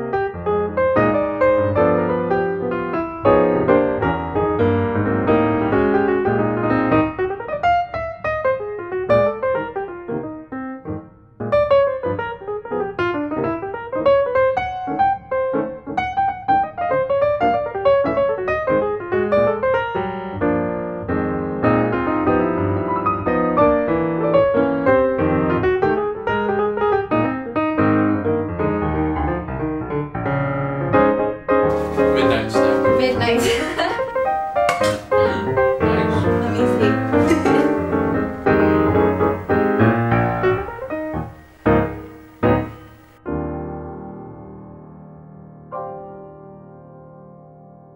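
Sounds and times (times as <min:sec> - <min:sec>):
piano melody with chords: 0:00.0 - 0:47.9.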